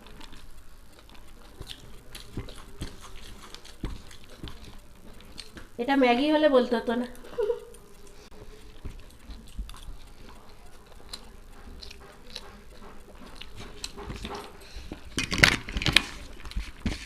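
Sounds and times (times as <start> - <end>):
people chewing and crunching food: 0.0 - 17.0.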